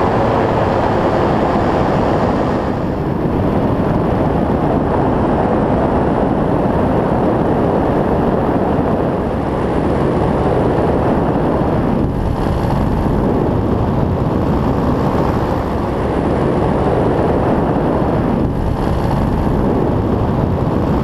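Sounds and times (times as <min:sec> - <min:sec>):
paraglider engine and propeller: 0:00.0 - 0:21.0
wind rushing over microphone: 0:00.0 - 0:21.0.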